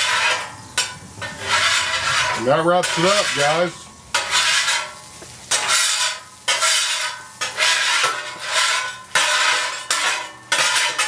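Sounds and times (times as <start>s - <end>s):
spatulas scraping steel griddle: 0.0s - 11.0s.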